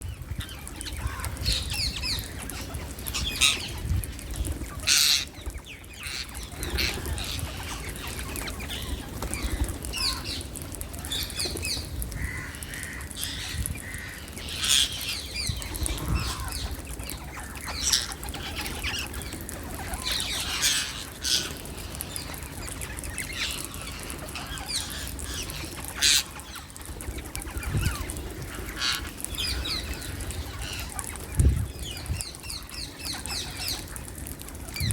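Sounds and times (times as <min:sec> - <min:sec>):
parakeets screeching: 0:00.4 - 0:03.9, 0:04.5 - 0:10.4, 0:11.0 - 0:34.9.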